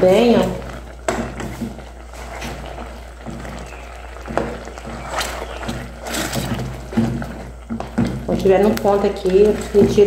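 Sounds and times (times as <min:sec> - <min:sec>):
syrup bubbling in a pot: 0:00.0 - 0:10.0.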